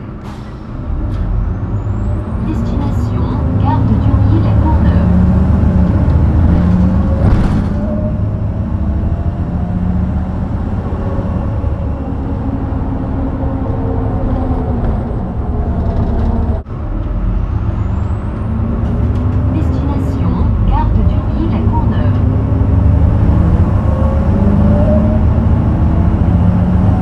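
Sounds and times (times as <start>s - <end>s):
bus diesel engine accelerating: 0.0s - 27.0s.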